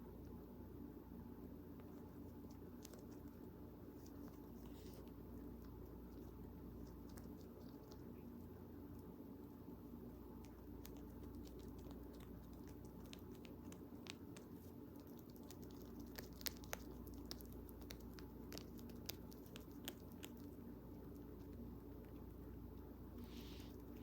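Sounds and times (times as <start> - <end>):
faint steady hum: 0.0 - 24.0
rabbit gnawing and crunching: 0.0 - 24.0.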